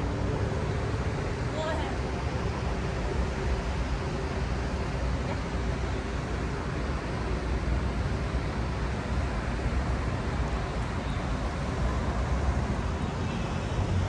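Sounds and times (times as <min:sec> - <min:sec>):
traffic hum and rumble: 0:00.0 - 0:14.0.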